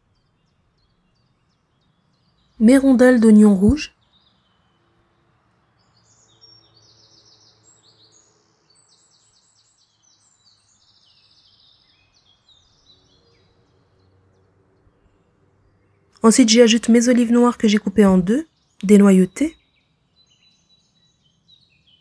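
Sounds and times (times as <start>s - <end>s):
faint birdsong chirps and trills: 0.0s - 22.0s.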